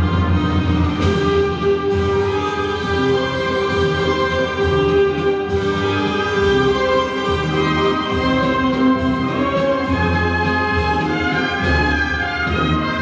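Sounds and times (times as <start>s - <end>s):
orchestral music with beat: 0.0s - 13.0s.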